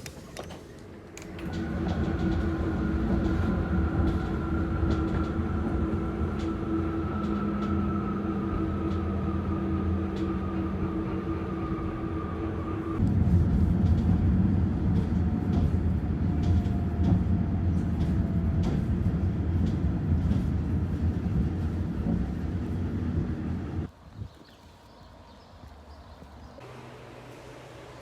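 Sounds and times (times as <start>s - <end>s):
train running: 0.0s - 23.9s.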